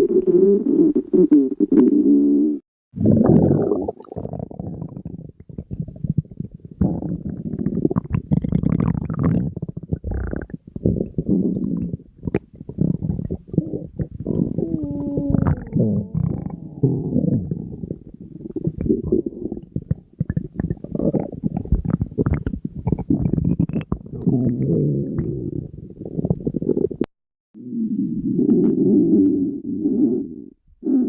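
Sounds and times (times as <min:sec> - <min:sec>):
stomach growling: 0:00.0 - 0:31.0.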